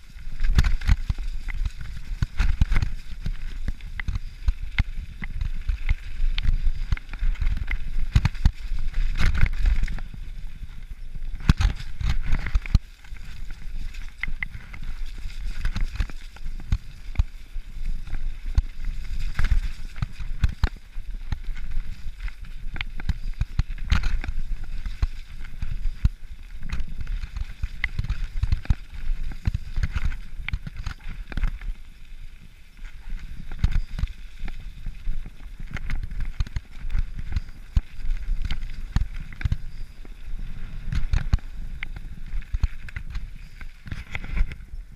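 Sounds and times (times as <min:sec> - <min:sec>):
bike rattling over bumps: 0:00.0 - 0:44.9
bike tyres rumbling on dirt: 0:00.0 - 0:44.9.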